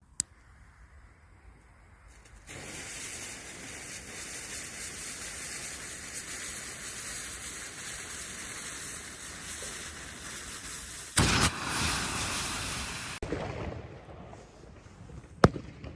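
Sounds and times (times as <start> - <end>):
firework fuse hissing: 0.4 - 15.7.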